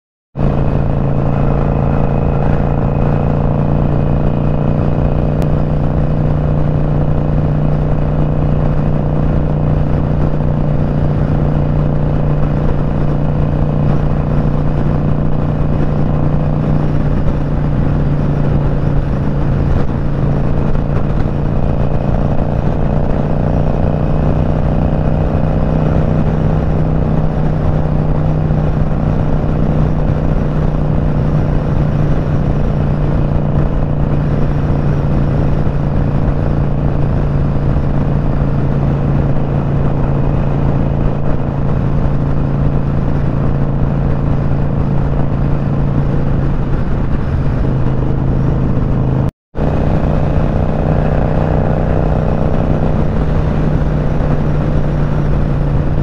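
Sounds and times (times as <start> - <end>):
motorcycle engine cruising: 0.4 - 56.0
rushing wind: 0.4 - 56.0.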